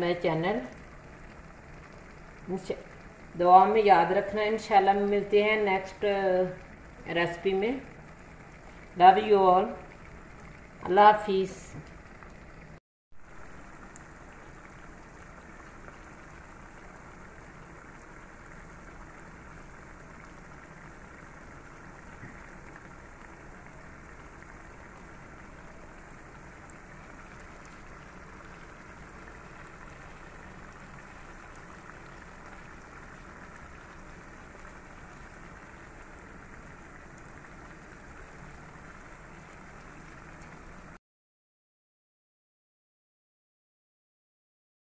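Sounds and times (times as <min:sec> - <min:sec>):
curry sizzling in a pan: 0:00.0 - 0:41.0.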